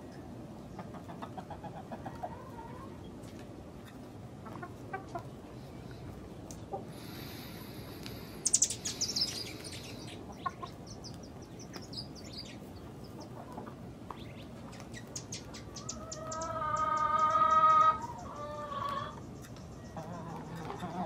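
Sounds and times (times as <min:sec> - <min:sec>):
chickens clucking and chirping: 0:00.0 - 0:21.0.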